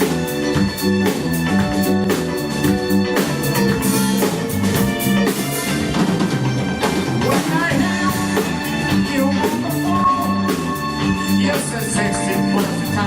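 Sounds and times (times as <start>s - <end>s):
drum kit beat: 0.0s - 13.0s
live band playing: 0.0s - 13.0s.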